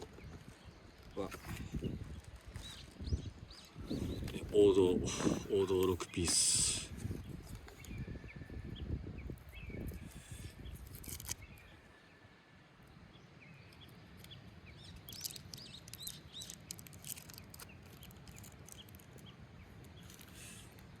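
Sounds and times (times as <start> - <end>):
birds chirping: 0.0 - 12.2, 12.8 - 21.0
faint outdoor ambience: 0.0 - 21.0.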